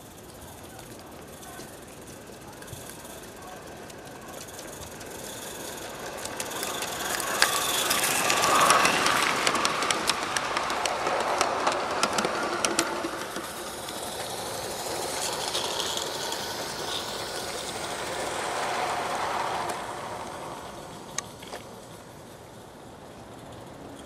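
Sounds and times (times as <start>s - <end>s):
model train rushing: 0.0s - 24.0s
wheels clicking over rail joints: 0.0s - 24.0s.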